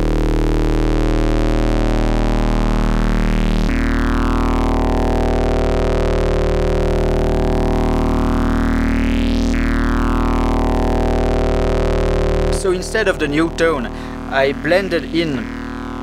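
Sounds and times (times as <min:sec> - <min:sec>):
synthesizer drone with rising sweeps: 0:00.0 - 0:16.0.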